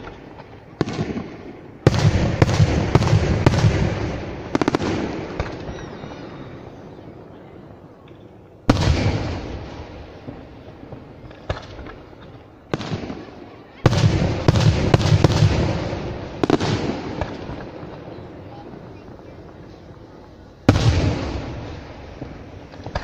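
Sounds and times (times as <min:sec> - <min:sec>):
fireworks bangs echoing: 0:00.0 - 0:23.0.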